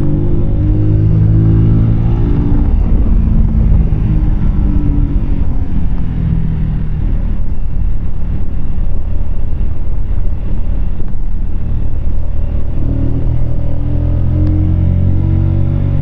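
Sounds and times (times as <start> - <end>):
motorcycle engine running: 0.0 - 16.0
wind rumble on microphone: 0.0 - 16.0.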